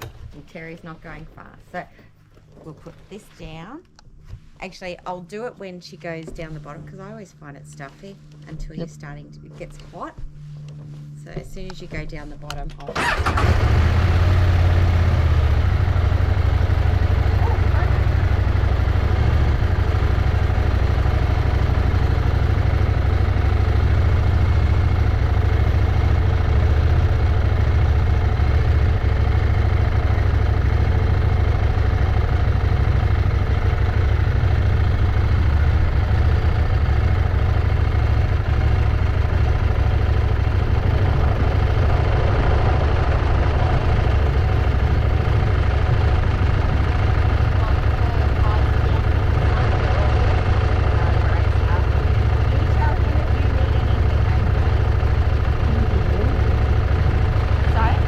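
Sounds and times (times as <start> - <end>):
motorcycle engine rumbling: 0.0 - 3.7, 4.6 - 58.0.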